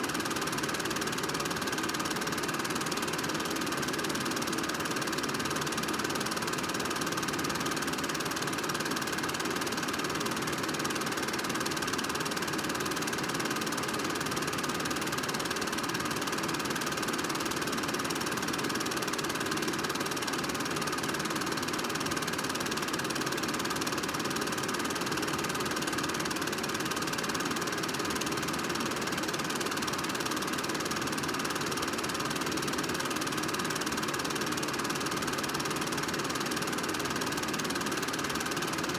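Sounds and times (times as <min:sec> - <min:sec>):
movie projector whirring: 0:00.0 - 0:38.9.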